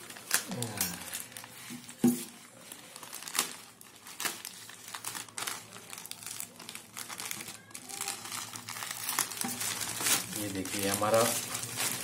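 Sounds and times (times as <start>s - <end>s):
plastic bag crinkling and tearing: 0.0s - 12.0s.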